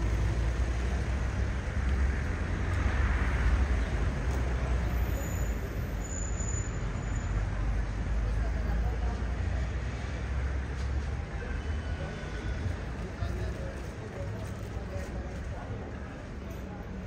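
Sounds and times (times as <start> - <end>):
road noise rumble: 0.0 - 17.0.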